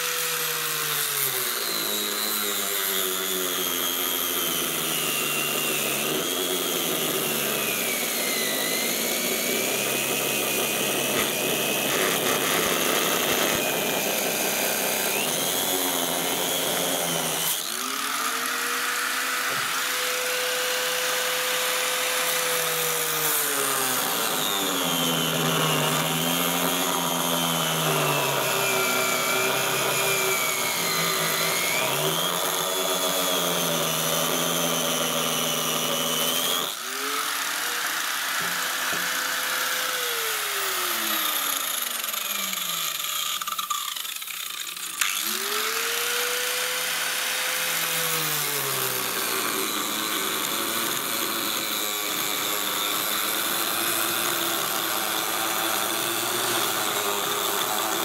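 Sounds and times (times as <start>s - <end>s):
cutting disc sawing plastic: 0.0s - 58.0s.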